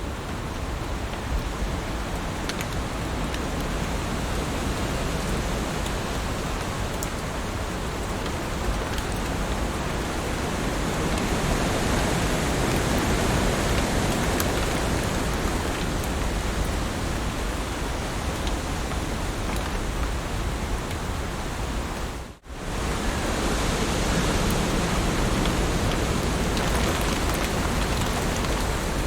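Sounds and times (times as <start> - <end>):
heavy rain on leaves: 0.0 - 29.0.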